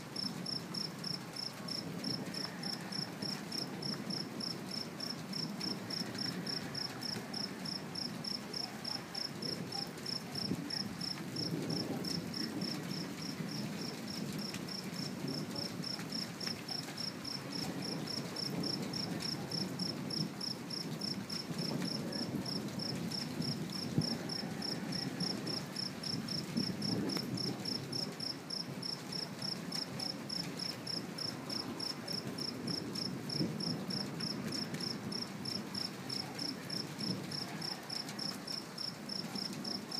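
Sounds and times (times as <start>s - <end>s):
distant thunder rumbling: 0.0s - 39.9s
crickets chirping: 0.2s - 39.9s.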